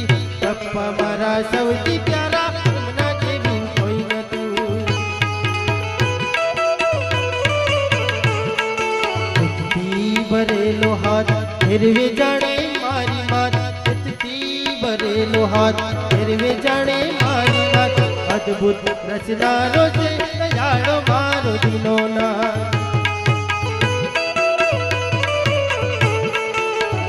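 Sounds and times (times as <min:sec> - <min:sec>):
harmonium holding chords: 0:00.0 - 0:27.0
tabla beat: 0:00.0 - 0:27.0.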